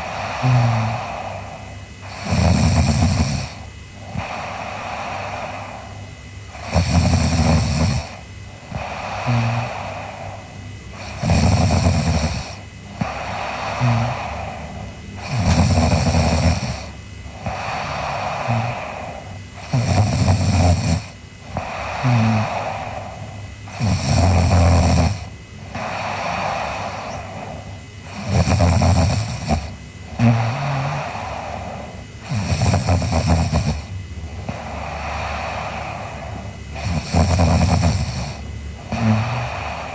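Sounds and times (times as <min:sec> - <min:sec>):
girl snoring: 0:00.0 - 0:39.9
soft breathing: 0:00.0 - 0:39.9.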